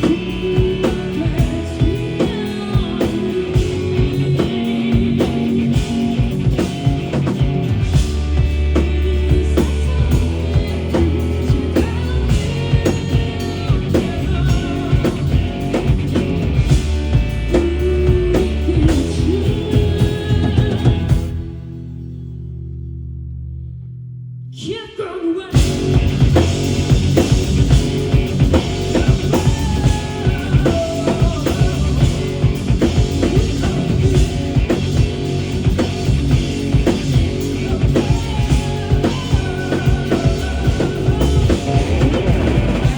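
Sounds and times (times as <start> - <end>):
drum kit: 0.0 - 21.8, 25.5 - 42.9
rock band playing live: 0.0 - 22.1, 25.5 - 42.9.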